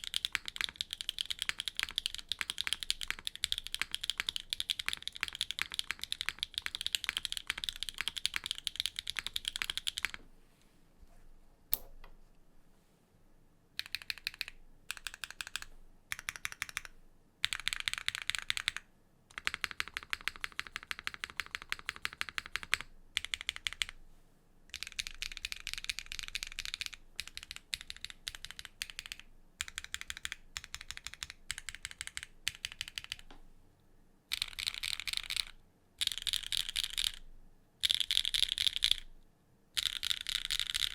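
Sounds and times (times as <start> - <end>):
mechanical keyboard typing: 0.0 - 10.2, 13.8 - 24.0, 24.7 - 33.3, 34.3 - 37.2, 37.8 - 39.1, 39.8 - 40.9.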